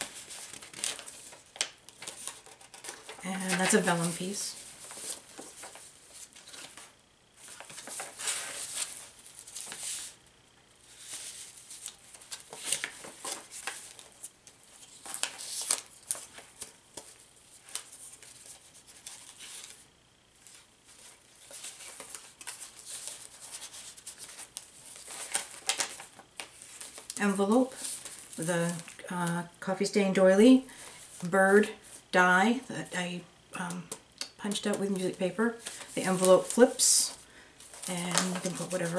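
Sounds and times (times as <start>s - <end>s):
paper pages rustling: 0.0s - 10.2s, 10.8s - 19.8s, 20.4s - 29.0s, 35.5s - 38.9s.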